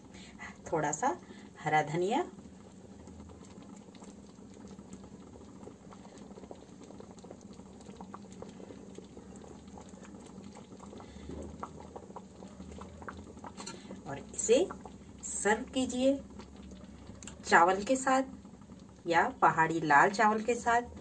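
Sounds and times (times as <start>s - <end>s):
thick stew bubbling and popping: 0.0s - 21.0s.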